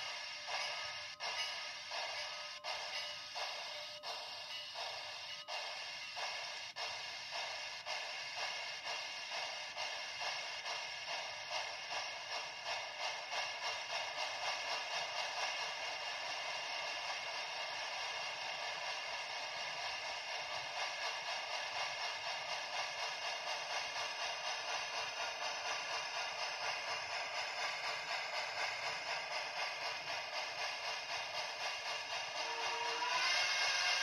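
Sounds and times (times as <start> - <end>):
steam locomotive chuffs from small speaker: 0.0 - 34.0.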